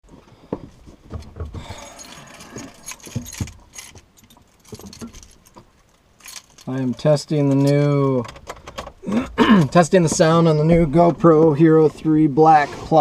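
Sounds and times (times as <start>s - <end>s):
objects knocking and rattling: 0.9s - 11.6s.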